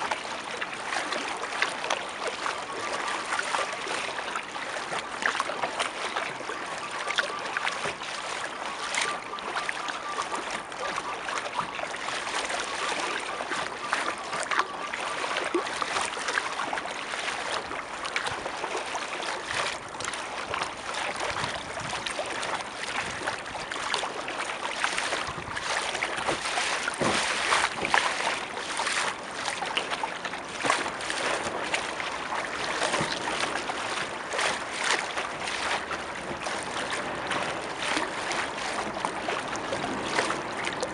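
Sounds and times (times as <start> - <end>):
water splashing against kayak hull: 0.0 - 40.9.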